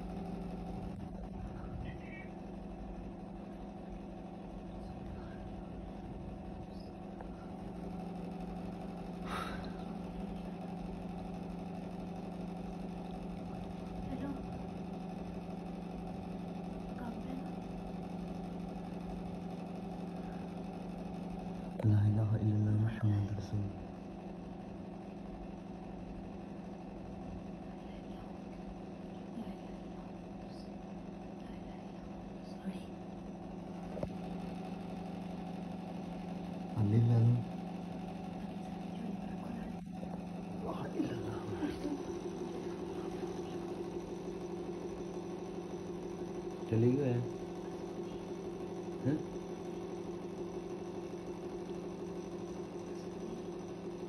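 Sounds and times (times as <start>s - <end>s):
ceiling fan humming: 0.0s - 54.0s.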